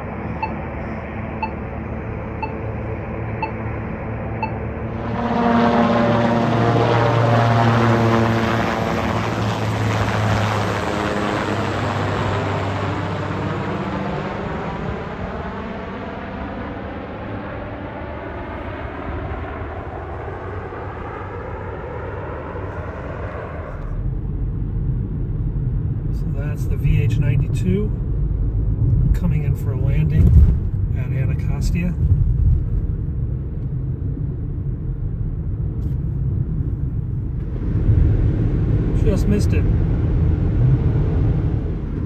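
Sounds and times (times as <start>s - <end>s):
helicopter flying overhead: 0.0s - 42.0s.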